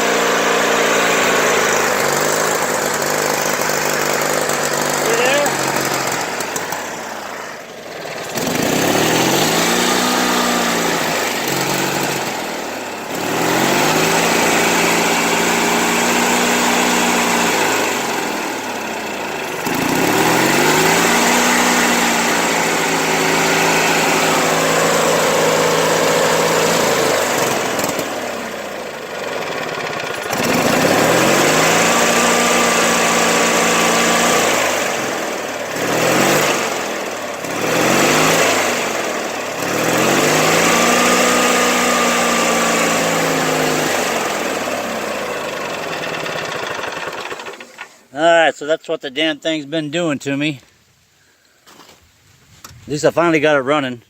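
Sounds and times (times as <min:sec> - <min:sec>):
lawn mower engine surging: 0:00.0 - 0:50.3.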